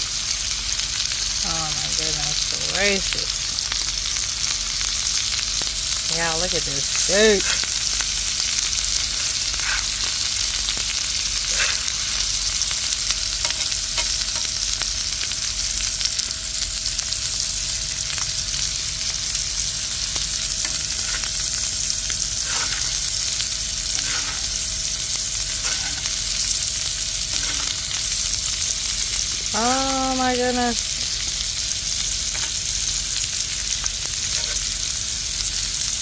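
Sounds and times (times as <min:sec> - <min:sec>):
steak sizzling in a frying pan: 0:00.0 - 0:36.0.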